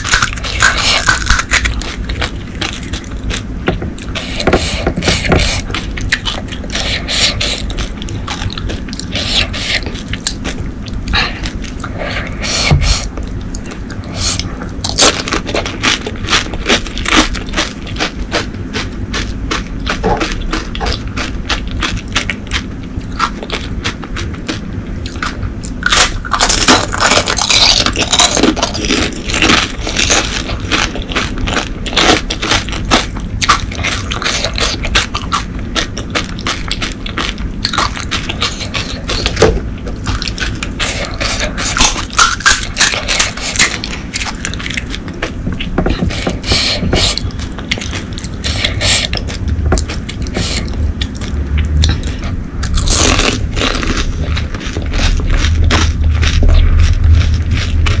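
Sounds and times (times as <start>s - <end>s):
crunchy food chewing: 0.0s - 58.0s.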